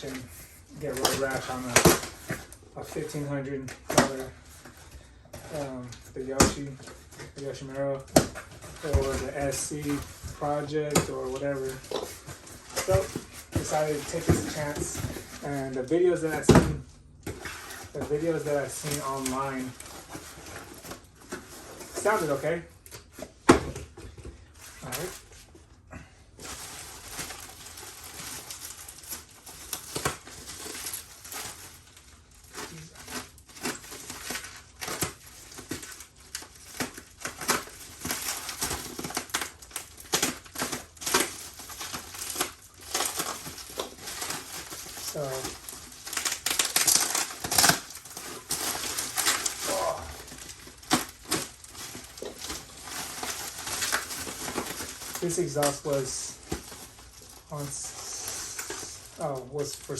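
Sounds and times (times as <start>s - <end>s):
packaging rustling and crinkling: 0.0s - 59.9s.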